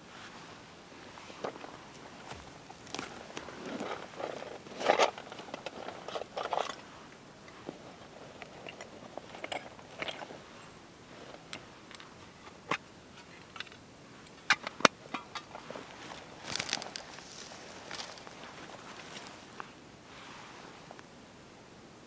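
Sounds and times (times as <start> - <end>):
tool roll crinkling and rustling: 1.2 - 20.7.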